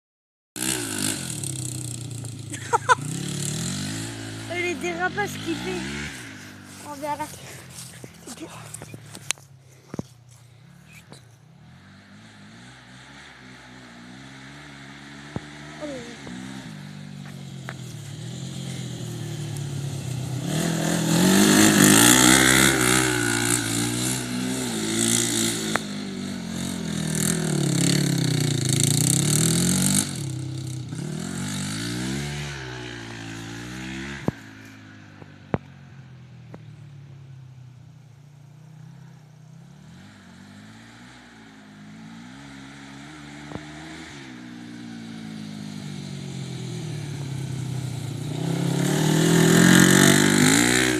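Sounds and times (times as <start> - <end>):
quad bike engine revving: 0.6 - 10.0, 10.6 - 35.7, 38.6 - 50.9.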